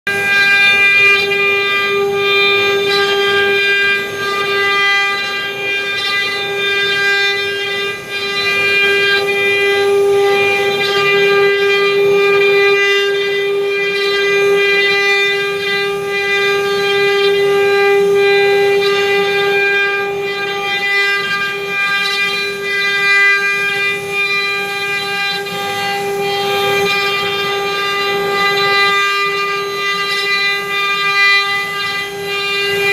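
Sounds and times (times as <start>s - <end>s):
router spindle whine: 0.1s - 32.9s
bit cutting wood: 0.2s - 32.9s.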